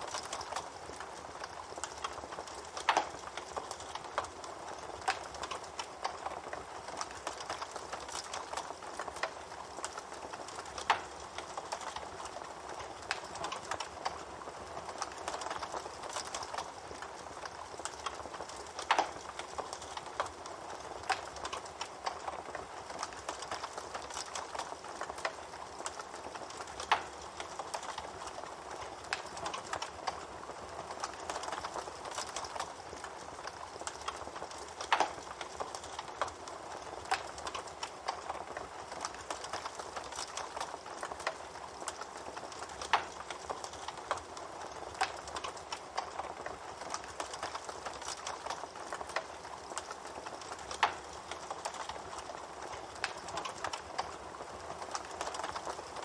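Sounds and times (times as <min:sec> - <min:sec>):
campfire hiss and crackling: 0:00.0 - 0:56.0.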